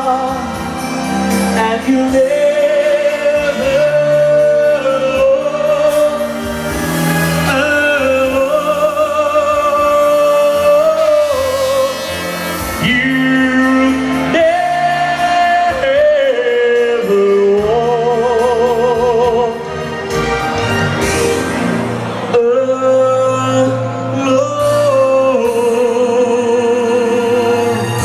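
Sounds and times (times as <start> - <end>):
man singing with vibrato: 0.0 - 20.2, 22.1 - 28.0
backing band playing: 0.0 - 28.0.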